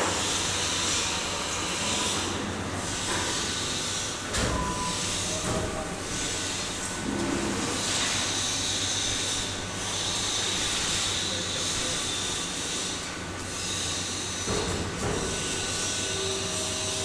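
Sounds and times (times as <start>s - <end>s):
metal cutting machine hissing: 0.0s - 17.0s.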